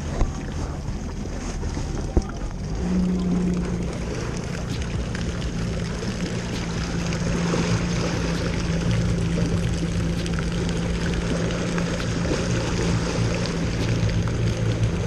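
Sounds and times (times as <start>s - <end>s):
jet ski engine hum: 0.0s - 15.0s
water and wind rushing: 0.0s - 15.0s.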